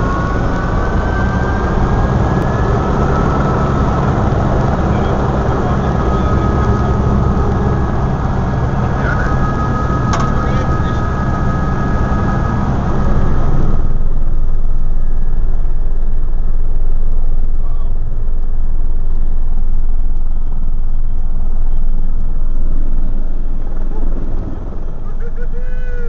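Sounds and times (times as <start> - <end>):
helicopter engine and rotor: 0.0 - 26.0
steady high whine: 0.0 - 26.0.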